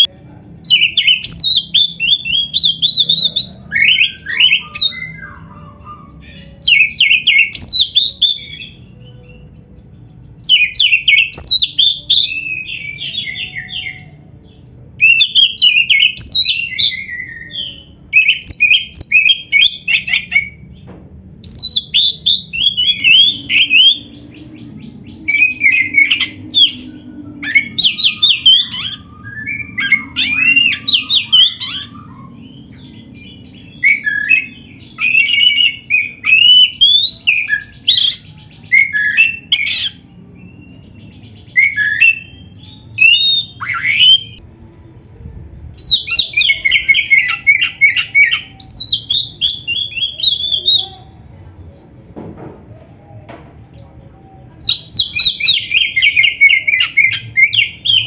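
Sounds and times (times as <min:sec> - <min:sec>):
magpie-robin singing: 0:00.0 - 0:44.4, 0:45.2 - 0:51.2, 0:53.6 - 0:58.0.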